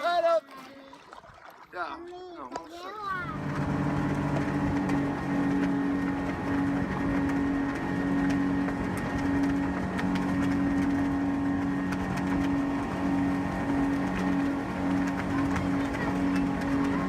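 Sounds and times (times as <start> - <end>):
engine running steadily: 3.0 - 17.0.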